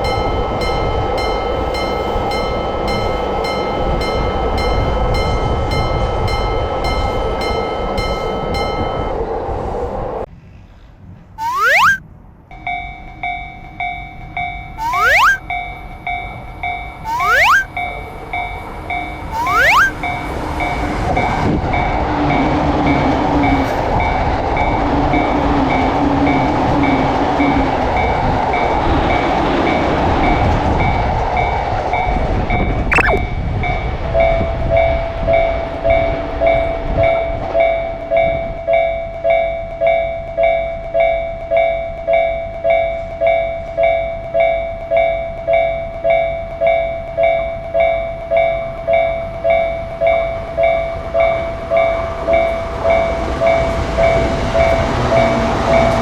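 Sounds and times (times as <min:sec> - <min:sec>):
railroad crossing bell dinging: 0:00.0 - 0:09.5, 0:11.4 - 0:32.2, 0:33.9 - 0:56.0
train rumble and wheel clatter: 0:00.0 - 0:10.3, 0:20.0 - 0:32.9, 0:33.7 - 0:56.0.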